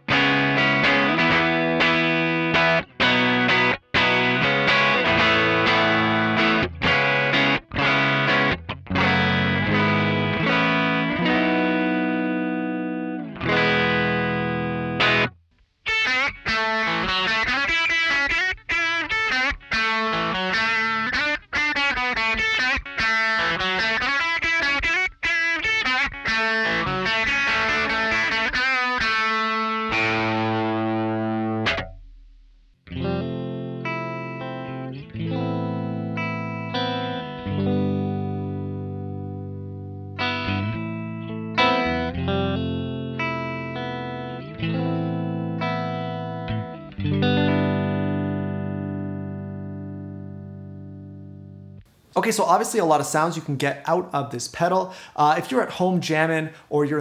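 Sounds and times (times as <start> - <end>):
electric guitar picked notes: 0.0 - 32.2, 32.8 - 51.9
electric guitar strummed chords: 0.0 - 51.9.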